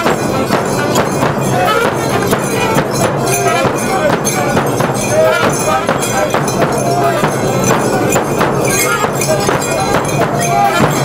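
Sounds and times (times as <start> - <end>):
frame drums beaten with sticks: 0.0 - 11.0.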